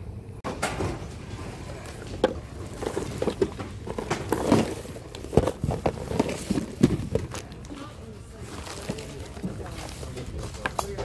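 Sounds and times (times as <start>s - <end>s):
bags and paper rustling: 1.4s - 11.0s.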